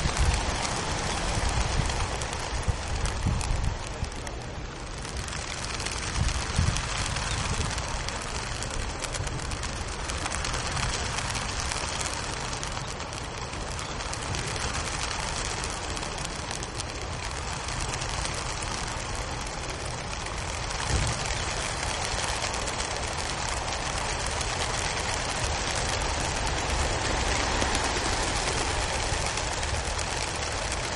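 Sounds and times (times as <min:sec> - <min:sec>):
pigeon wings flapping: 0:00.0 - 0:30.9.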